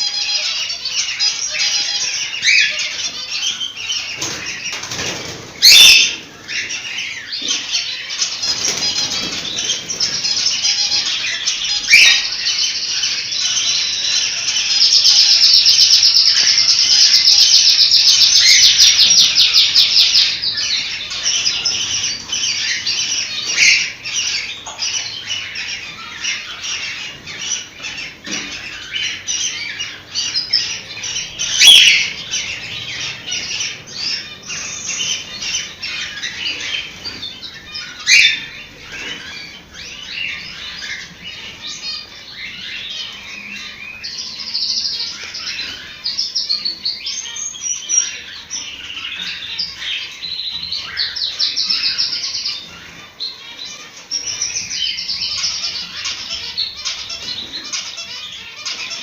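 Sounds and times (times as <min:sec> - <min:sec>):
cockatiels chirping: 0:00.0 - 0:59.0.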